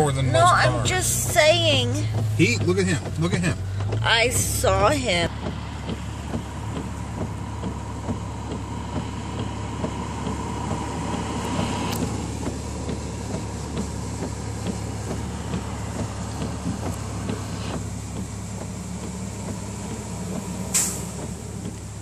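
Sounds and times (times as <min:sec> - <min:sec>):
car engine idling: 0:00.0 - 0:22.0
rain ticking on car: 0:00.0 - 0:22.0.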